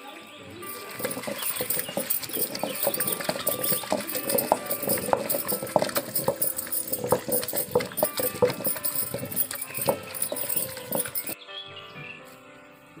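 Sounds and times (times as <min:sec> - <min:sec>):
stone roller knocking on stone: 0:00.6 - 0:11.4.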